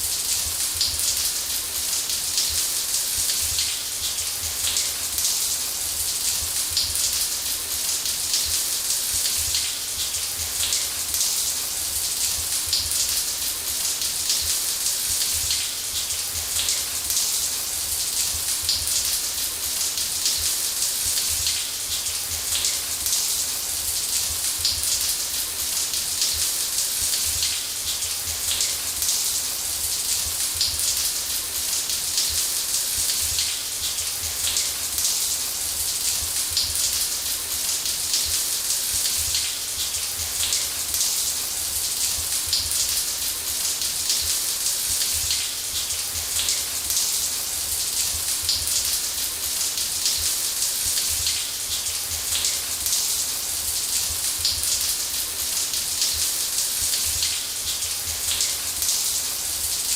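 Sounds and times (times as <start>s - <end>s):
shower running: 0.0s - 59.9s.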